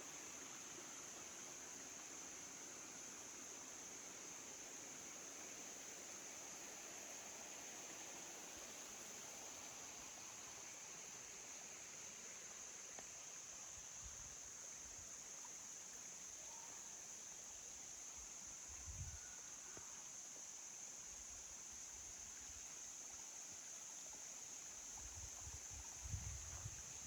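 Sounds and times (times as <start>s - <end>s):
high hiss: 0.0s - 27.0s.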